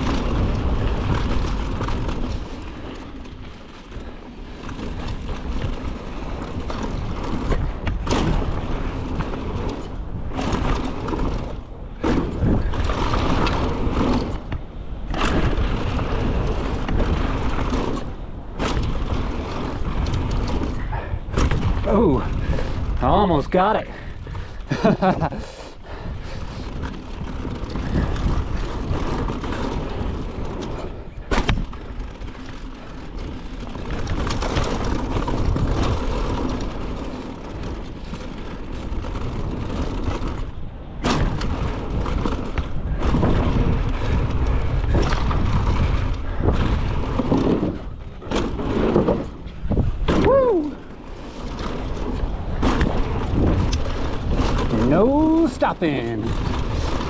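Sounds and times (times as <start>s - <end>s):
wind on camera microphone: 0.0s - 3.3s, 4.0s - 57.0s
bike tyres on dirt: 0.0s - 57.0s.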